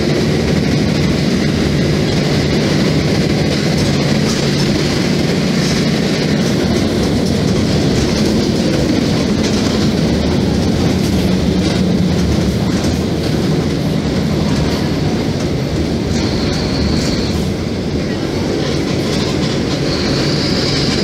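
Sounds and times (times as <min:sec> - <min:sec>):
bus diesel engine hum: 0:00.0 - 0:21.0
road noise: 0:00.0 - 0:21.0.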